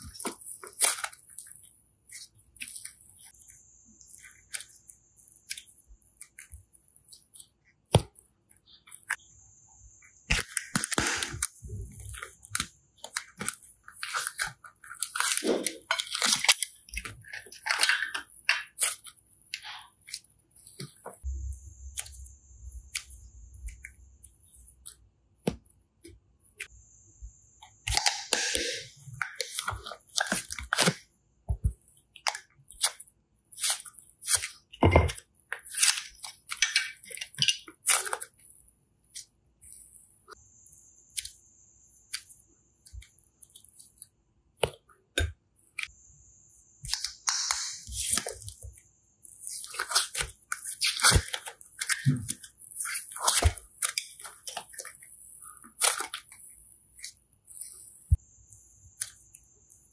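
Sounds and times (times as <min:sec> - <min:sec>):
slime crackling and squishing: 0:00.0 - 0:09.3, 0:10.2 - 0:26.7, 0:27.7 - 0:46.0, 0:46.8 - 0:59.9.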